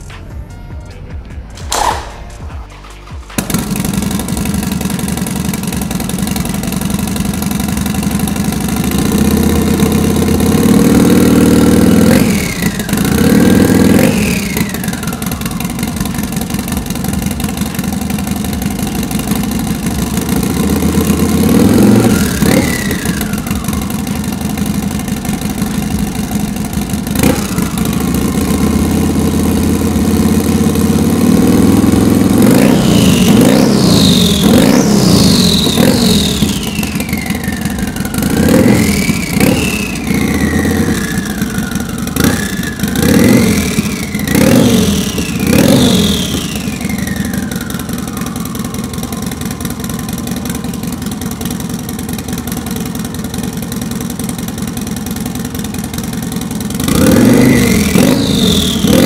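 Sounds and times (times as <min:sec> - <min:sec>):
motorcycle engine revving: 0:01.4 - 0:59.0
high turbo whistle: 0:03.5 - 0:53.2, 0:56.9 - 0:59.0.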